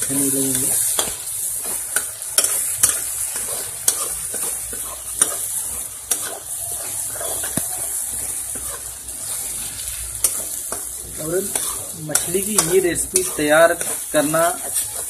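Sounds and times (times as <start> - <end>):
onions sizzling in oil: 0.0 - 15.0
spatula scraping pan: 0.5 - 15.0.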